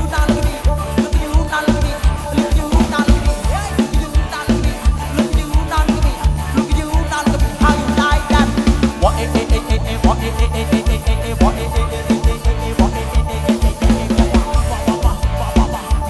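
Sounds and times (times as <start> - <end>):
band music through speakers: 0.0 - 16.0.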